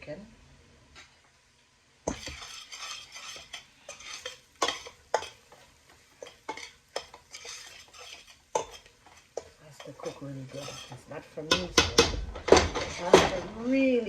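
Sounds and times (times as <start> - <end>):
curry sizzling in oil: 1.1 - 14.0
spoon scraping and knocking pot: 2.0 - 13.7.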